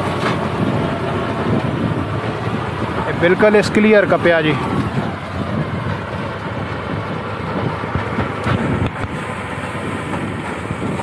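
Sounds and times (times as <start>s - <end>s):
tractor engine and reaper running: 0.0s - 11.0s.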